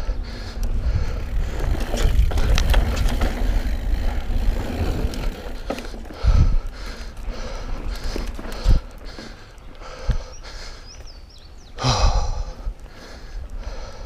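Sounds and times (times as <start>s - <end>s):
bike clicks and rattles: 0.0s - 11.6s
bike tyres rolling on dirt: 0.0s - 14.0s.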